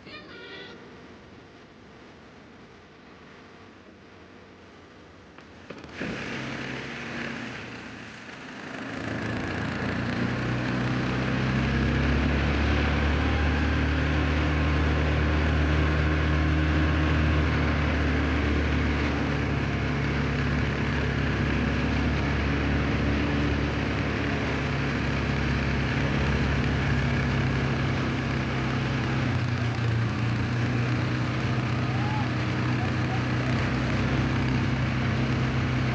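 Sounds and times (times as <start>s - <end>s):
engine running: 5.4s - 35.9s.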